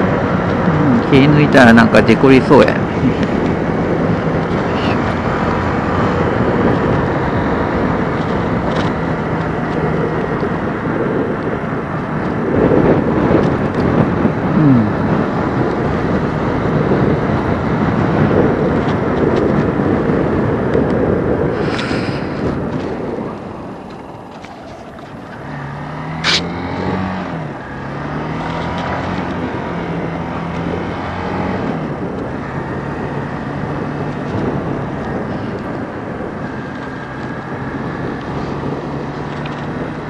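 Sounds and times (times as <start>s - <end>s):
motorcycle engine running: 0.0s - 40.0s
wind noise on microphone: 0.0s - 40.0s.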